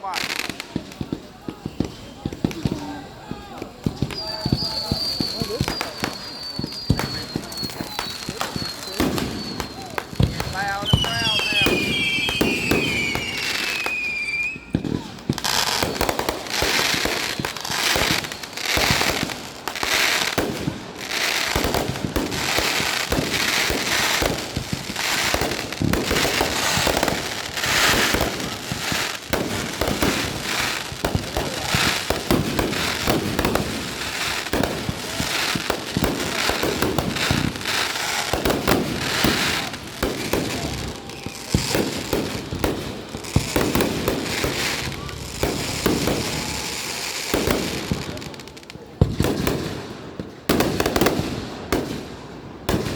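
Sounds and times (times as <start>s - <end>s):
fireworks popping and crackling: 0.0s - 52.9s.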